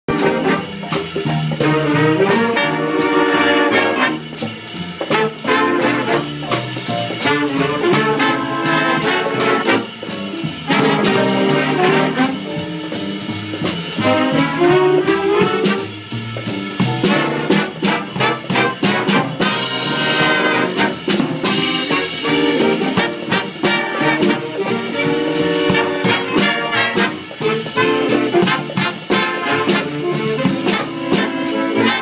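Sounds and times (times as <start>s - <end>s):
jazz big band playing: 0.0s - 32.0s
drum and cymbal strokes: 0.1s - 32.0s.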